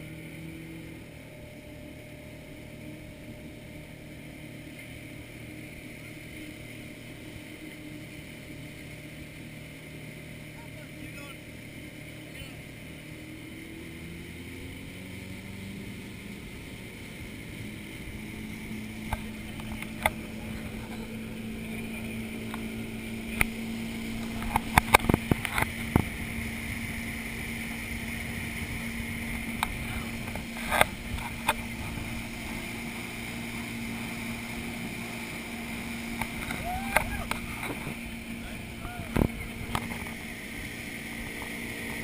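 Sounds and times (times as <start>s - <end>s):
motorboat engine running: 0.0s - 42.0s.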